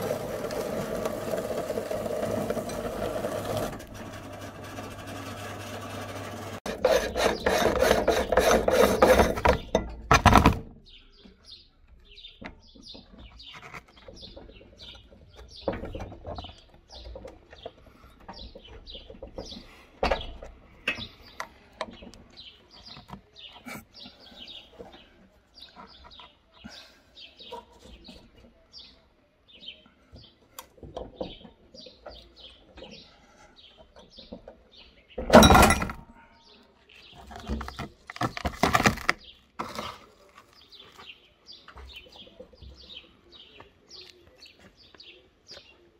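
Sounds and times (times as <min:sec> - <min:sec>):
birds chirping: 0:02.8 - 0:45.9.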